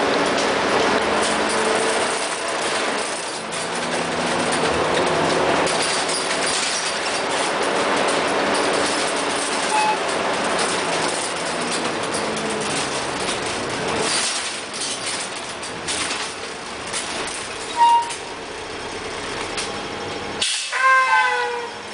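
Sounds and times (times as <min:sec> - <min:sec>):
clattering and rattling: 0:00.0 - 0:20.7
bus engine drone: 0:00.0 - 0:21.9.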